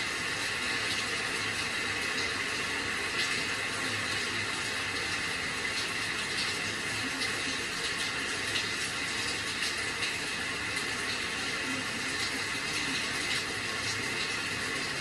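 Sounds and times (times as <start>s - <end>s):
rain drops ticking: 0.0s - 15.0s
steady rain: 0.0s - 15.0s.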